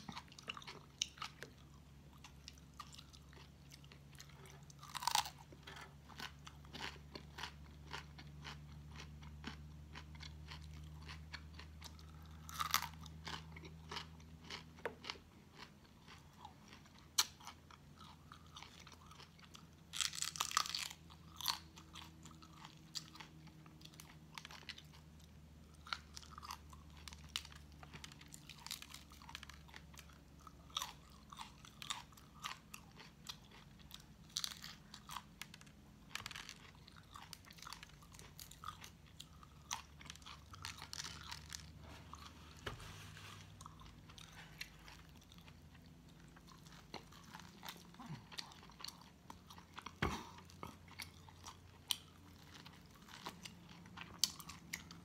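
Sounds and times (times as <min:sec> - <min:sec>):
quiet chewing: 0:00.0 - 0:55.0.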